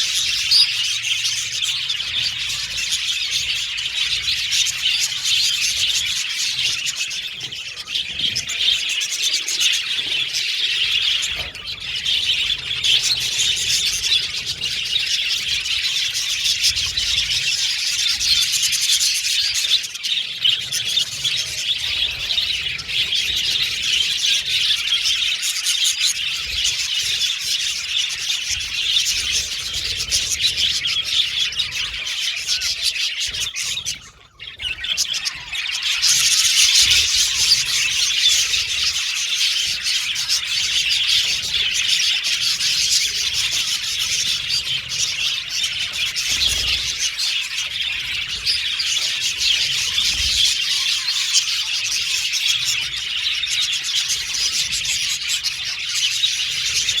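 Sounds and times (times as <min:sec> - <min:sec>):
flock of budgies chattering: 0:00.0 - 0:57.0.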